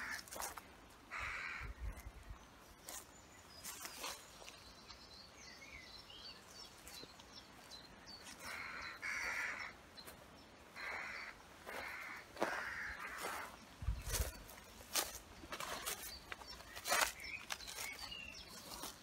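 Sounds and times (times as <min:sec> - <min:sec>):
harsh bird calls: 0:00.0 - 0:19.0
small birds chirping: 0:00.0 - 0:19.0.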